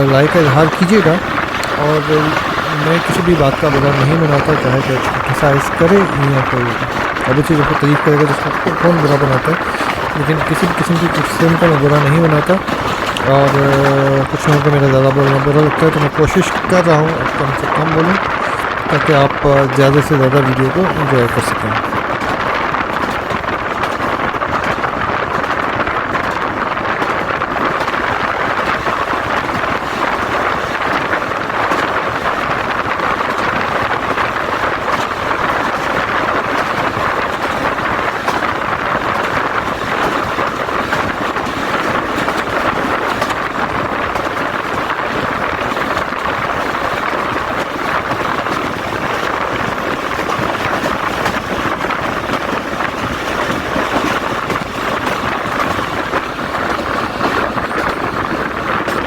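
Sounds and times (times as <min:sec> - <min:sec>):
train running on track: 0:00.0 - 0:59.0.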